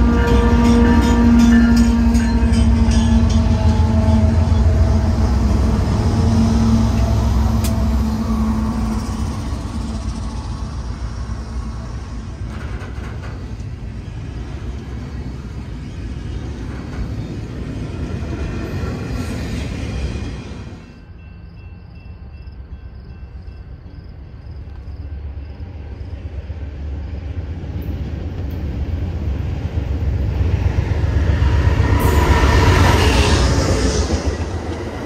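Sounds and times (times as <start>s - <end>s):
locomotive engine drone: 0.0s - 35.0s
train cars rumbling on rails: 0.0s - 35.0s.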